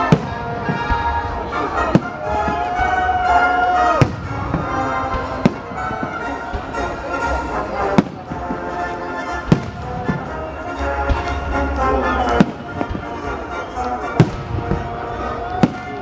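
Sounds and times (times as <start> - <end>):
music playing: 0.0 - 16.0.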